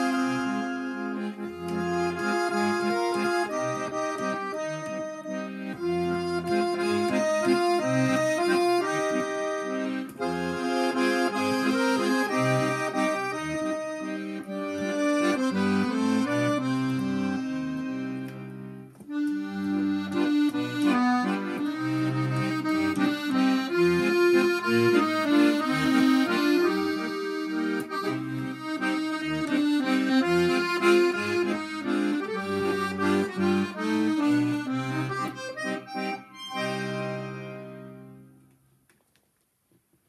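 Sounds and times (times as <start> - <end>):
button accordion playing tune: 0.0 - 38.4.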